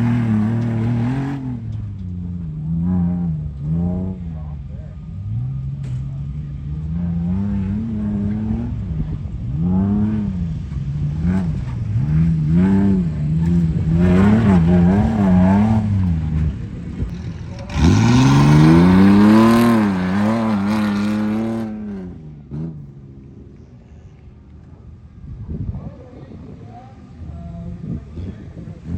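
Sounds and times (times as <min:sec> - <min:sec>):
truck engine revving: 0:00.0 - 0:23.8.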